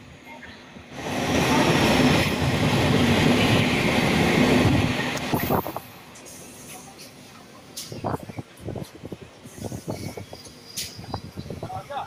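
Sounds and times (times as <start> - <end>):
train wheels clattering on track: 1.4 - 12.0.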